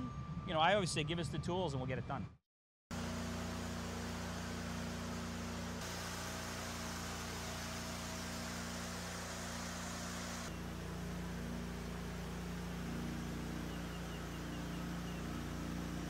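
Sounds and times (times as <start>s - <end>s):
pumps droning: 3.0s - 16.0s.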